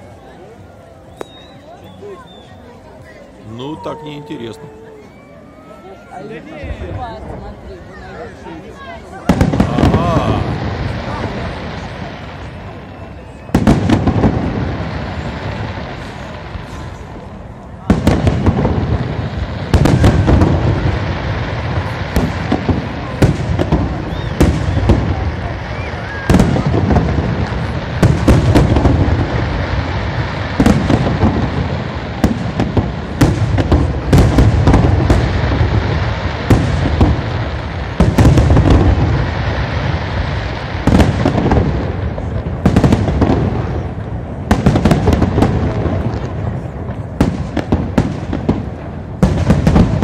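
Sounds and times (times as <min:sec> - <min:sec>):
fireworks bangs: 0:00.0 - 0:50.0
fireworks crackling: 0:00.0 - 0:50.0.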